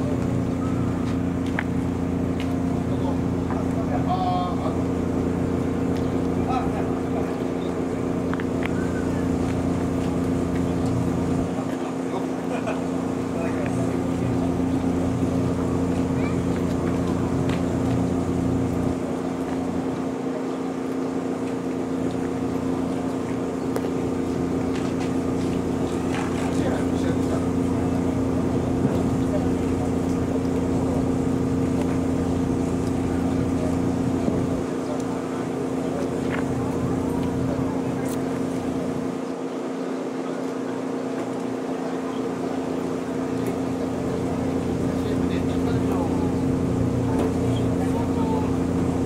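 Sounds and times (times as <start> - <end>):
engine idling: 0.0 - 49.0.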